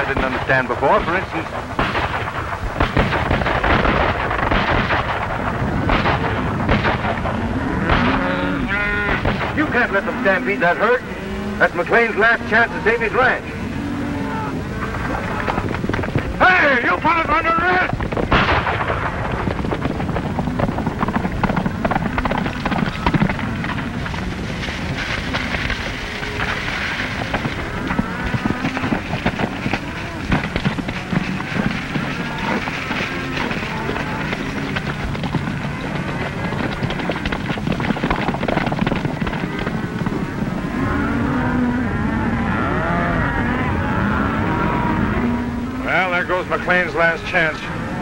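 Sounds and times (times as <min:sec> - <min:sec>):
horses galloping hoofbeats: 0:00.0 - 0:48.0
stampeding cattle rumble: 0:00.0 - 0:48.0.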